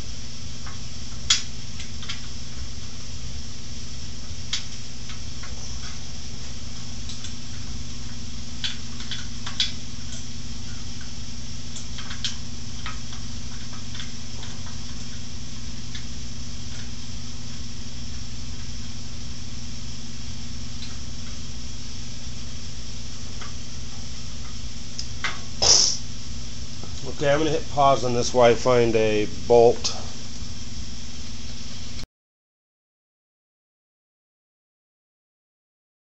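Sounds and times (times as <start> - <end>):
low hum with hiss: 0.0 - 32.0.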